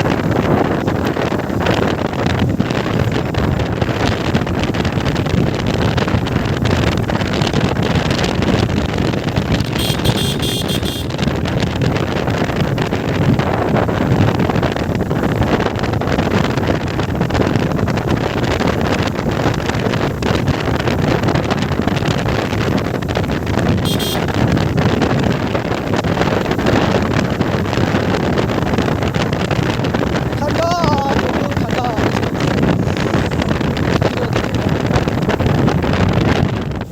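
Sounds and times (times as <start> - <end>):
motorcycle engine running: 0.0 - 36.9
wind buffeting microphone: 0.0 - 36.9.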